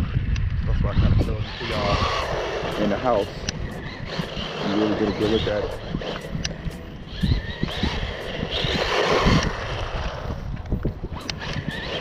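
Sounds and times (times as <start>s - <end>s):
toy truck motor whine: 0.9s - 12.0s.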